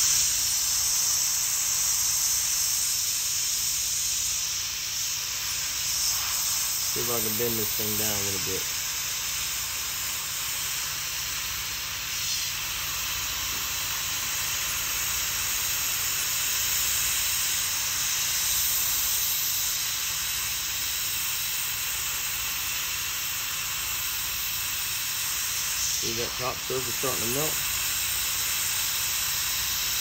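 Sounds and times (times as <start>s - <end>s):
hot air hissing: 0.0s - 30.0s.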